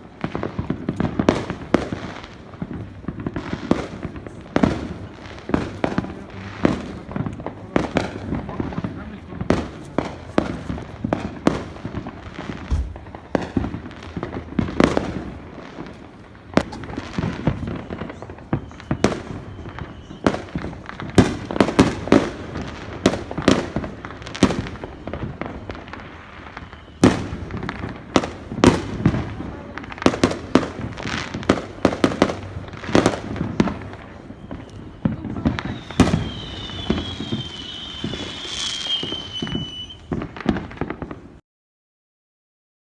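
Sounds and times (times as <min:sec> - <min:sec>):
deep firework booms: 0:00.0 - 0:41.4
fireworks bangs and crackles: 0:00.0 - 0:41.4.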